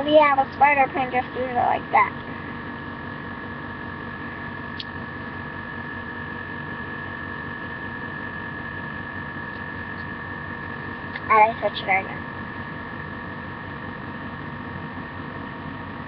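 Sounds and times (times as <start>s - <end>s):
background hum and hiss: 0.0s - 16.0s
high electrical whine: 0.0s - 16.0s.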